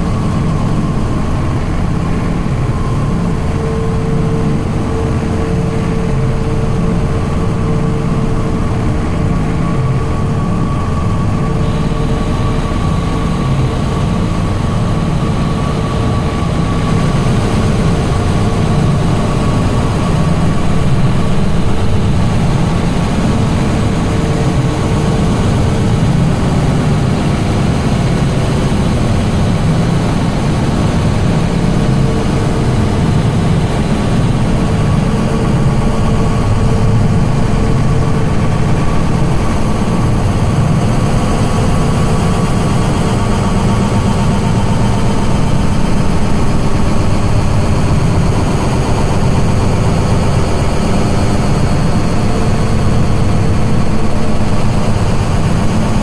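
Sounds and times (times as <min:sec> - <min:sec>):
distorted low drone: 0:00.0 - 0:56.0.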